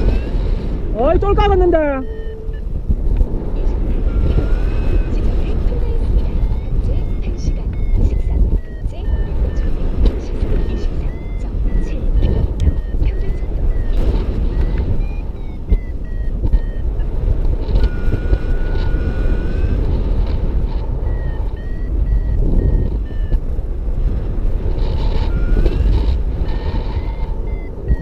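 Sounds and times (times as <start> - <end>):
variometer beeping: 0.0 - 28.0
wind rush on microphone: 0.0 - 28.0.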